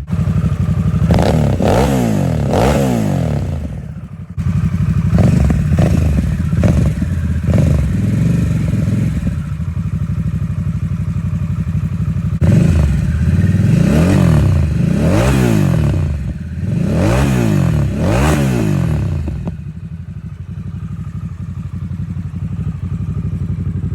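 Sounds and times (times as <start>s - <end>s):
motorcycle engine idling and revving: 0.0s - 23.9s.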